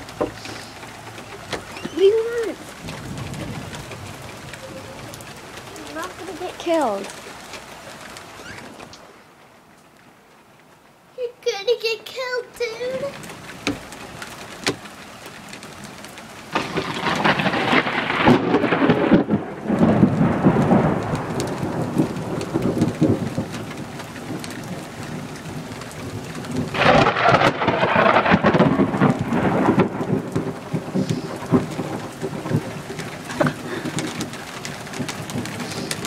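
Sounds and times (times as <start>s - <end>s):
thunder rumbling: 0.0s - 9.2s, 15.7s - 36.0s
raindrops pattering: 0.0s - 36.0s.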